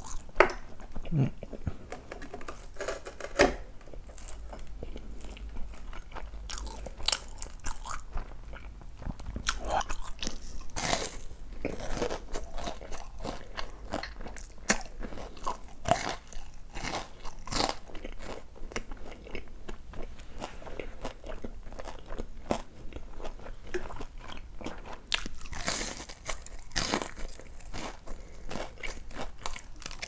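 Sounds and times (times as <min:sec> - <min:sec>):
crunching and chewing fried food: 0:00.0 - 0:30.0.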